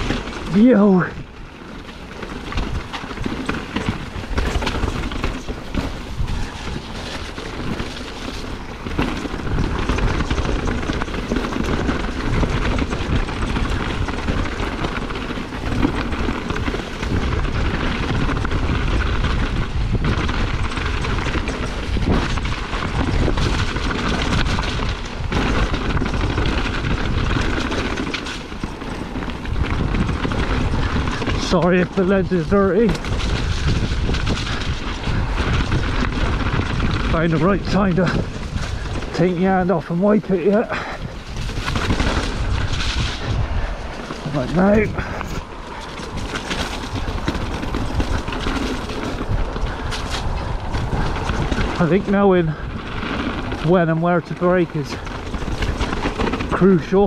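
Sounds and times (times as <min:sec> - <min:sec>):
bike knocking and rattling: 0:00.0 - 0:57.0
tyres rumbling on dirt: 0:00.0 - 0:57.0
wind on microphone: 0:00.0 - 0:57.0.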